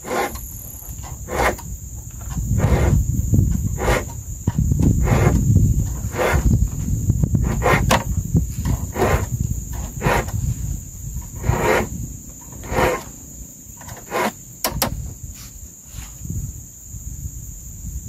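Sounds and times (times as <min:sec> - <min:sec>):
insects shrilling: 0:00.0 - 0:16.9.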